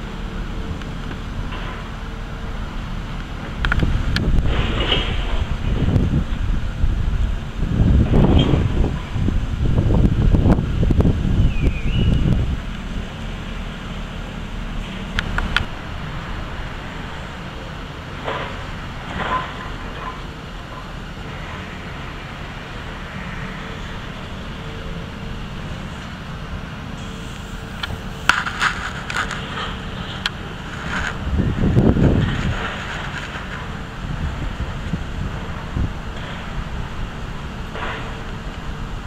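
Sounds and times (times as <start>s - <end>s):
outdoor traffic noise: 0.0s - 39.0s
wind buffeting microphone: 0.0s - 39.0s.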